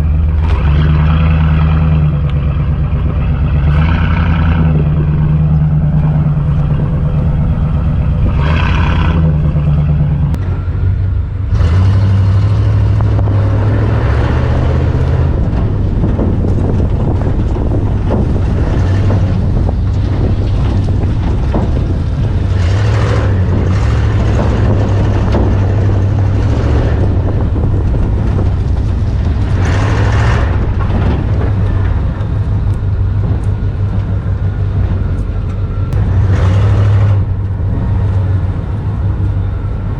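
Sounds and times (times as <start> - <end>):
rushing rattling noise: 0.0 - 39.9
truck engine running: 0.0 - 39.9.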